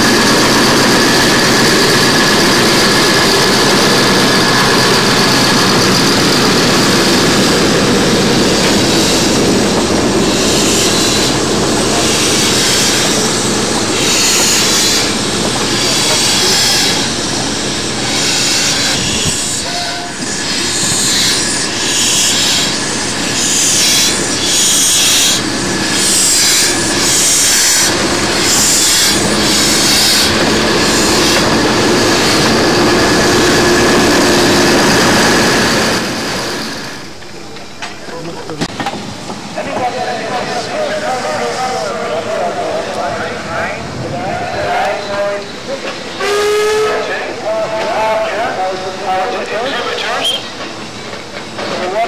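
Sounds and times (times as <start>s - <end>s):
steady rush with faint squeal: 0.0s - 52.0s
steam locomotive exhaust beats: 0.0s - 52.0s.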